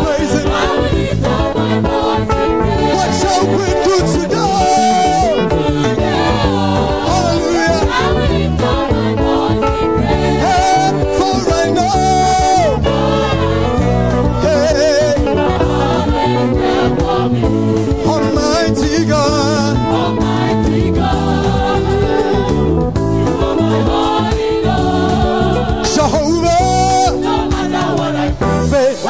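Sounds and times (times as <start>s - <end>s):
choir singing gospel: 0.0s - 29.0s
sustained accompaniment: 0.0s - 29.0s.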